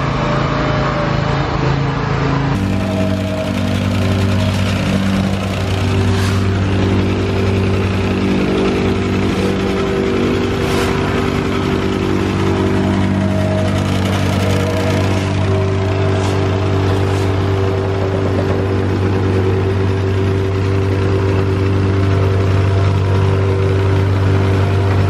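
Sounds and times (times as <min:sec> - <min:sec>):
heavy machine engine running: 0:00.0 - 0:25.0.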